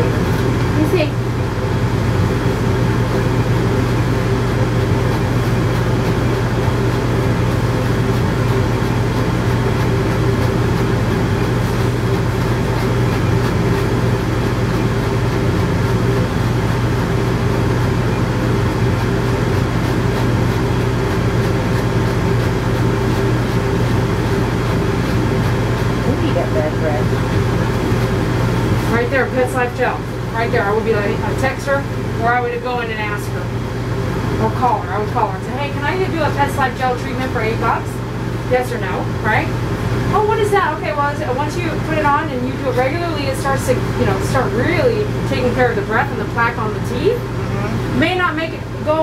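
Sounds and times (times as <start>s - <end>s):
low machinery hum: 0.0s - 49.0s.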